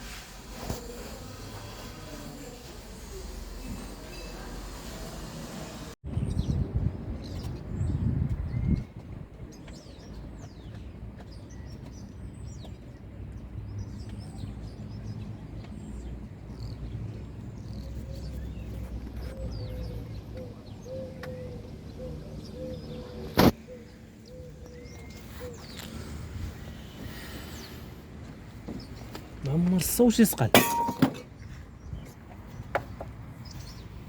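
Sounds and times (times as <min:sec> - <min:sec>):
birds chirping: 0:06.1 - 0:34.0.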